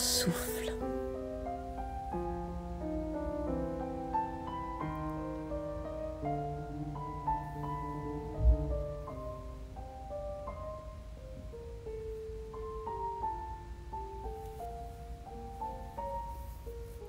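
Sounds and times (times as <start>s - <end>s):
slow quiet piano music: 0.0s - 17.0s.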